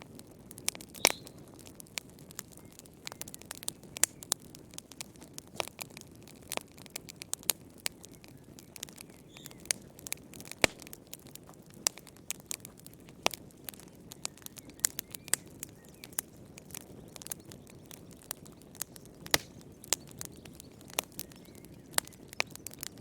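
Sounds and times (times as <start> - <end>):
fire crackling and popping: 0.0 - 23.0
low hiss of burning: 0.0 - 23.0.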